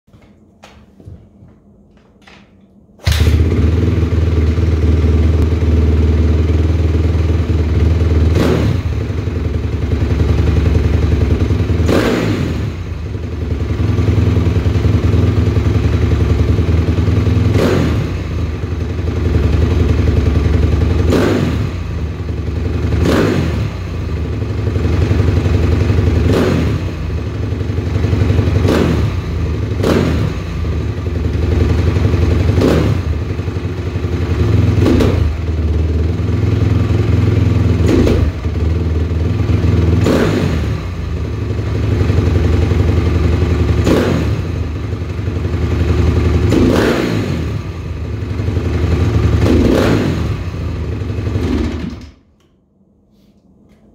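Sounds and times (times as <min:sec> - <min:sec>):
motorcycle engine idling: 0:03.0 - 0:52.0.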